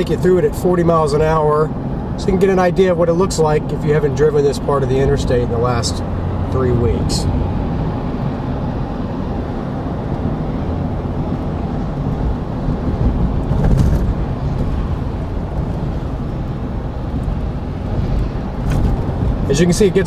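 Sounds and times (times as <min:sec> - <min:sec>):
car engine hum: 0:00.0 - 0:20.0
road and tyre noise: 0:00.0 - 0:20.0.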